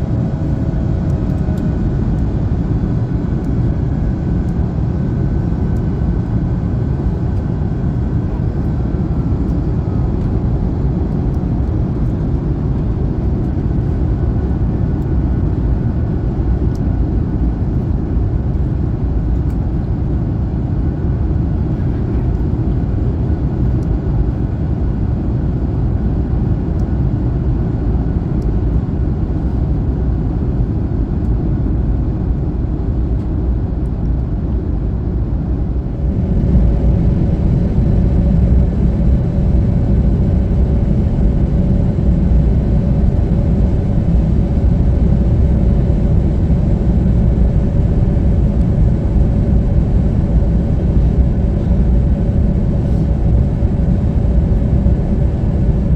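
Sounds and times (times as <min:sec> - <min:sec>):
airliner cabin engine noise: 0:00.0 - 0:55.9.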